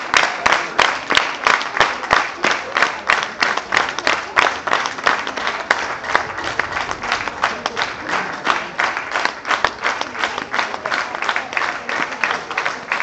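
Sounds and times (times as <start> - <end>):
crowd clapping in unison: 0.0 - 13.0
general applause: 0.0 - 13.0.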